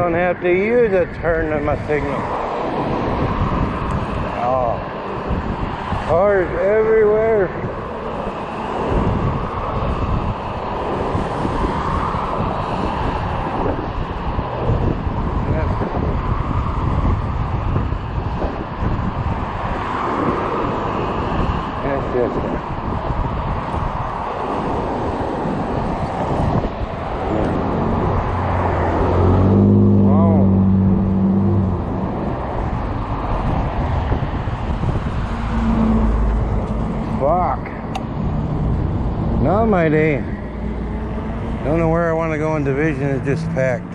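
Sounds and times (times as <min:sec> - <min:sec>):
road noise rush: 0:00.0 - 0:43.9
vehicle engine hum: 0:00.0 - 0:43.9
wind buffeting microphone: 0:00.0 - 0:43.9.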